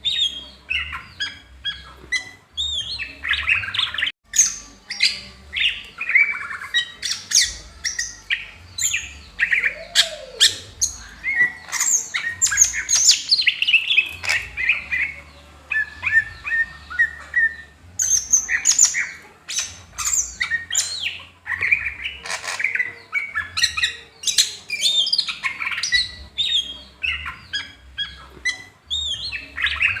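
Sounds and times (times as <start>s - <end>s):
bird singing chirps and whistles: 0.0s - 30.0s.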